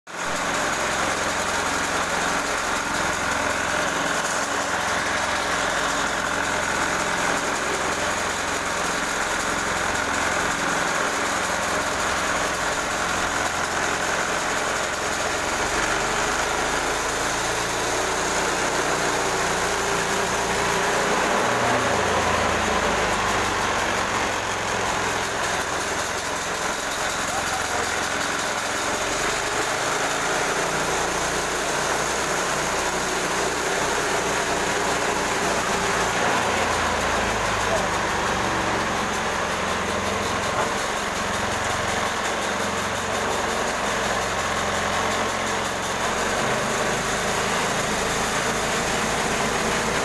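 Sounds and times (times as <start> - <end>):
sawmill engine running: 0.1 - 50.0.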